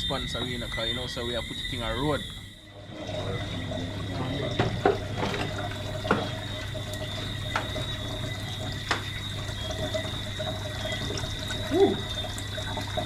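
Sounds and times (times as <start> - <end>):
steady hum: 0.0 - 13.0
water running: 0.0 - 13.0.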